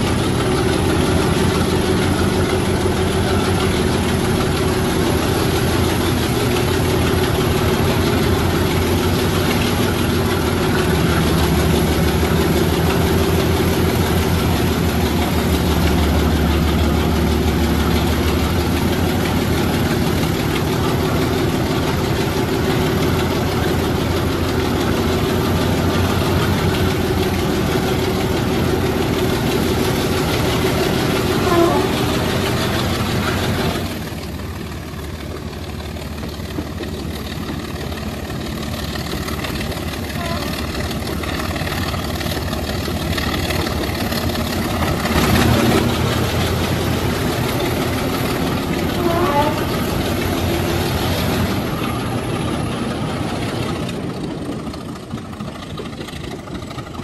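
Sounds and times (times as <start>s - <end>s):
diesel locomotive engine thrashing: 0.0s - 57.0s
train wheels running on rails: 0.0s - 57.0s.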